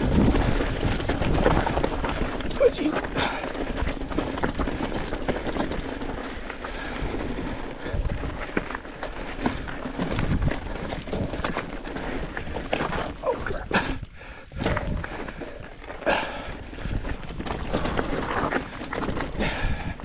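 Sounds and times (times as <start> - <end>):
bike rattling over bumps: 0.0 - 20.0
tyres crunching on gravel: 0.0 - 20.0.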